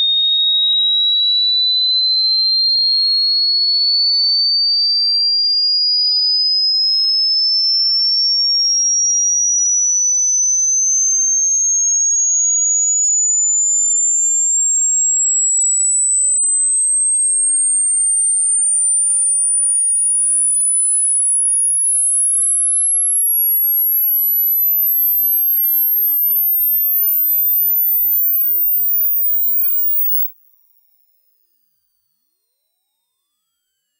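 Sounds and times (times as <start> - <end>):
high-pitched electronic whistle tone: 0.0 - 30.3.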